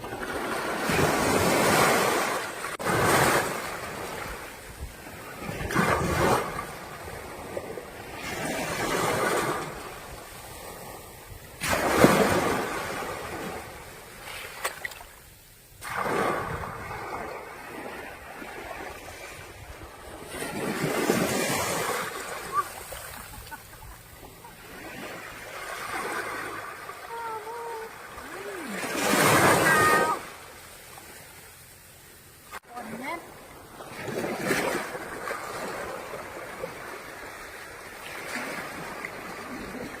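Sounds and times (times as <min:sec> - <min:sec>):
waves washing up on beach: 0:00.0 - 0:40.0.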